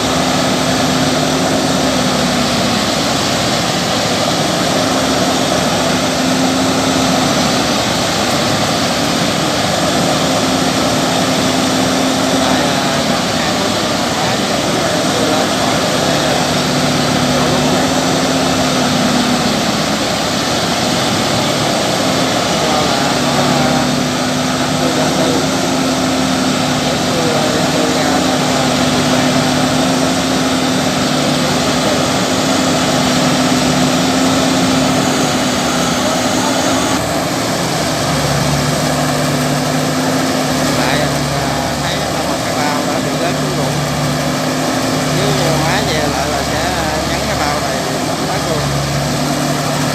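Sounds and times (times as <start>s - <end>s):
farm machinery engines under load: 0.0s - 49.9s.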